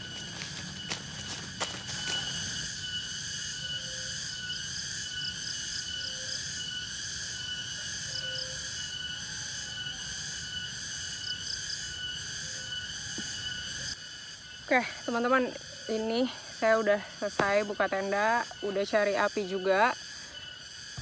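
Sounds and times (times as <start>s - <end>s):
insects shrilling: 0.0s - 21.0s.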